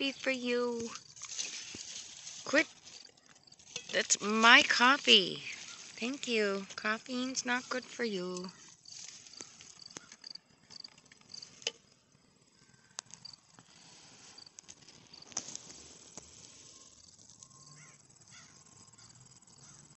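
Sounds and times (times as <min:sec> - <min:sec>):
insect chirping: 0:00.0 - 0:20.0
rustling and snapping of twigs: 0:00.2 - 0:12.0, 0:12.8 - 0:19.8.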